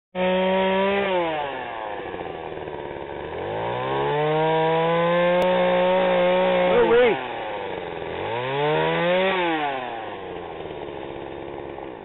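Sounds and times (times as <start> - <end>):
chainsaw engine revving and idling: 0.2 - 12.0.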